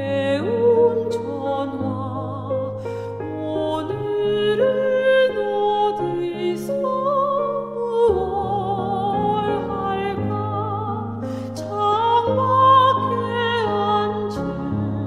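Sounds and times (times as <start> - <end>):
slow gentle background song: 0.0 - 15.0.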